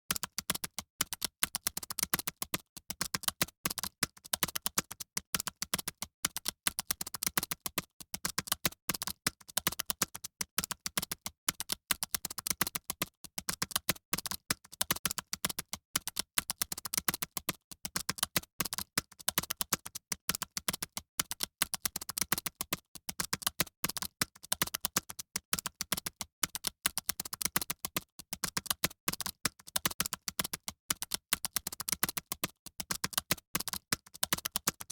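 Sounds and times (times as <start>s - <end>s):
fast keyboard typing: 0.1s - 34.9s.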